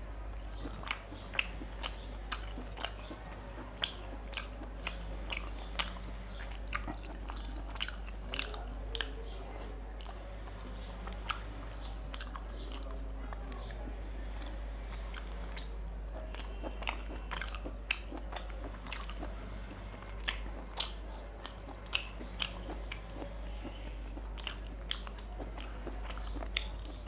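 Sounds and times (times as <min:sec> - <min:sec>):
steady low hum: 0:00.0 - 0:27.0
wet chewing smacks: 0:00.0 - 0:27.0.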